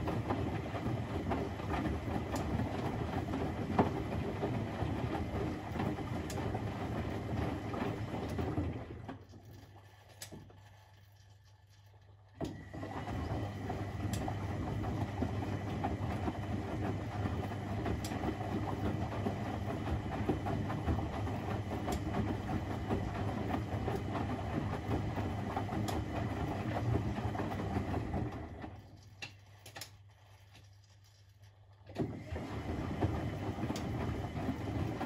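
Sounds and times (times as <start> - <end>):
washing machine motor humming: 0.0 - 11.0, 12.1 - 30.5, 31.8 - 35.0.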